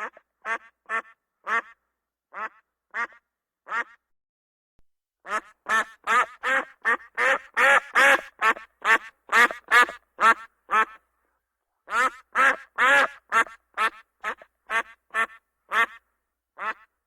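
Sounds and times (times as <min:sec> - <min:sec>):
duck quacking: 0:00.0 - 0:04.0, 0:05.2 - 0:11.0, 0:11.9 - 0:16.0, 0:16.6 - 0:17.0.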